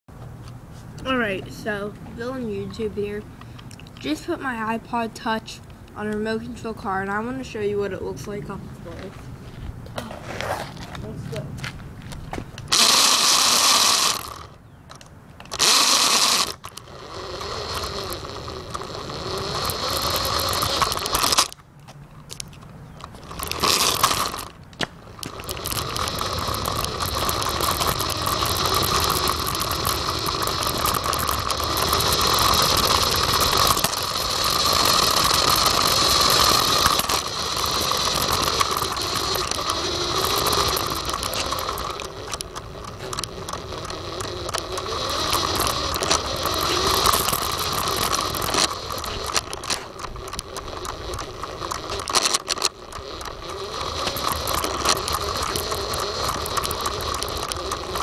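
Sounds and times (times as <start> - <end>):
scattered clicks: 0.2 - 7.5, 10.9 - 58.0
toy car electric motor whining: 1.1 - 8.4, 12.6 - 21.6, 22.2 - 58.0.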